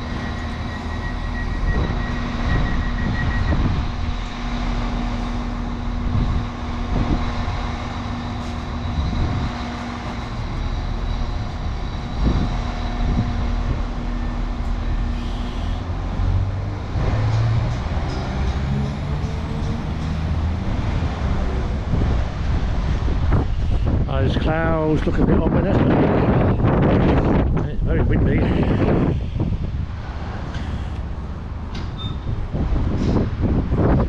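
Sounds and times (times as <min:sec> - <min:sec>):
train engine humming: 0:00.0 - 0:34.0
wind rumbling on microphone: 0:00.0 - 0:34.0.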